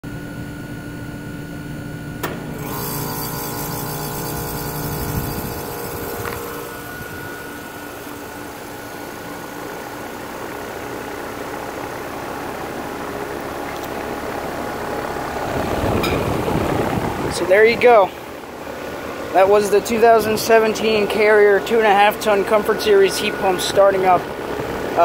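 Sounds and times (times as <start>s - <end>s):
compressor and fan humming: 0.0s - 25.0s.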